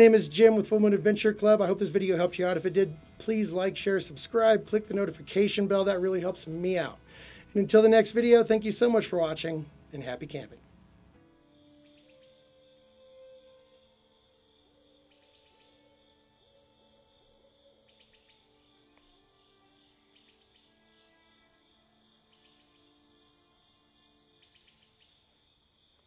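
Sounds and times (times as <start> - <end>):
crickets trilling: 0.0 - 9.3, 11.2 - 26.0
soft music with held notes: 0.0 - 25.4.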